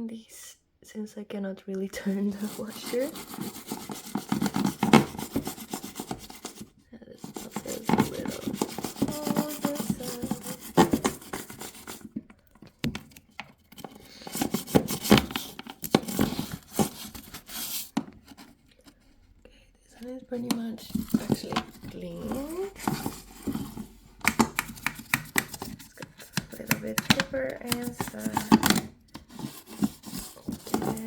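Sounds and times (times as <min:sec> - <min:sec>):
toothbrush scrubbing plastic: 0:02.0 - 0:12.8, 0:13.8 - 0:18.9, 0:20.1 - 0:31.0.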